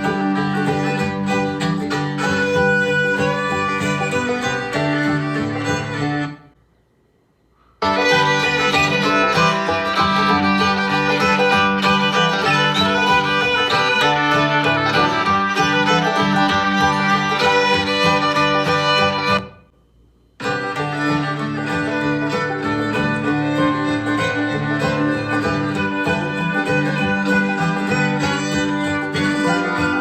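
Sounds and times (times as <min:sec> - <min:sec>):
bluegrass fiddle and guitar music: 0:00.0 - 0:06.6, 0:07.8 - 0:19.6, 0:20.4 - 0:30.0.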